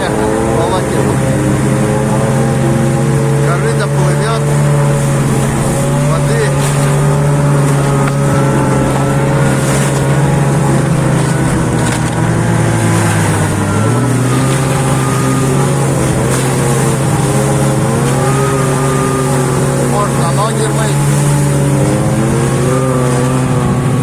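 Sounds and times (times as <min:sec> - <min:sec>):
snowmobile engines running: 0:00.0 - 0:24.0.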